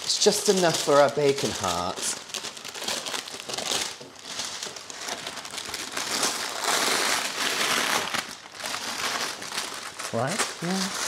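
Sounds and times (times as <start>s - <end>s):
baking paper crinkling: 0.0s - 11.0s.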